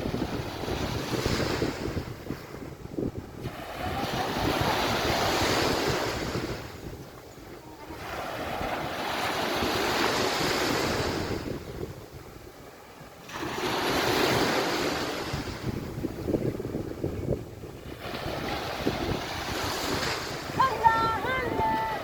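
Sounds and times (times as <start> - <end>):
sea waves washing onto beach: 0.0 - 22.0
wind buffeting microphone: 0.0 - 22.0.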